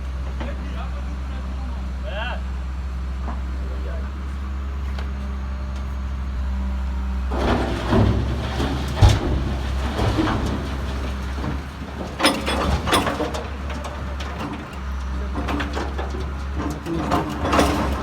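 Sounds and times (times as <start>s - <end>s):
heavy machine engine humming: 0.0s - 18.0s.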